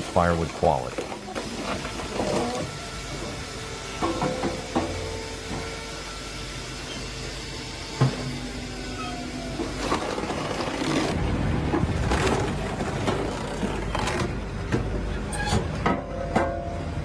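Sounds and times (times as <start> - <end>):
firewood machinery running: 0.0 - 15.2.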